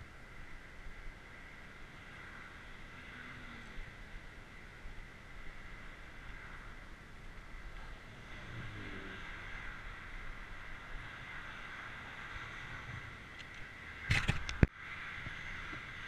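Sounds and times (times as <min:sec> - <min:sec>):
traffic hiss: 0:00.0 - 0:16.0.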